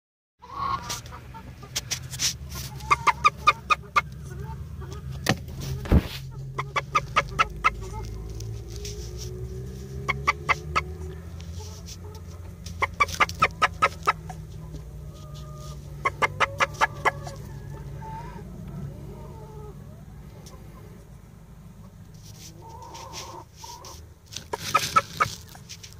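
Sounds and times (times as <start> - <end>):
hen clucking: 0.4 - 25.9.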